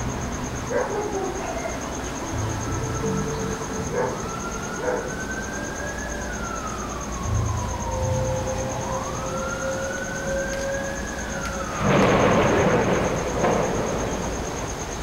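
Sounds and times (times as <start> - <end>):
wailing emergency siren: 0.0 - 15.0.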